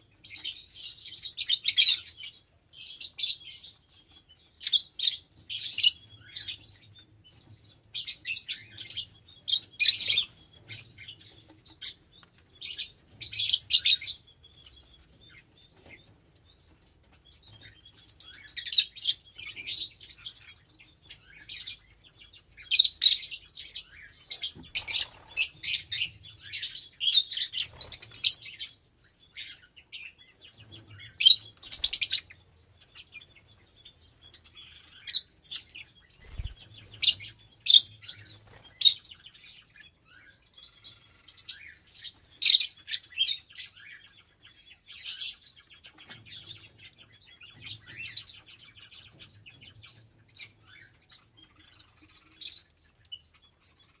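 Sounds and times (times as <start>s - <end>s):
lovebirds chirping: 0.0s - 54.0s.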